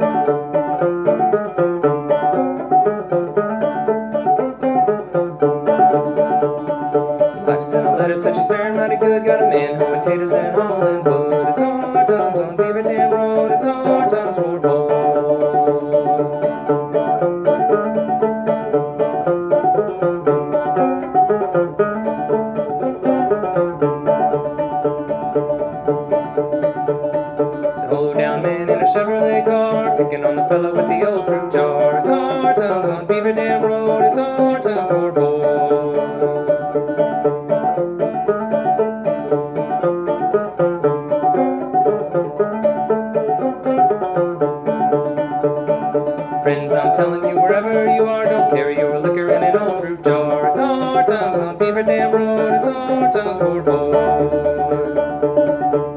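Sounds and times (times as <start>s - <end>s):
banjo tune plucked: 0.0s - 55.9s.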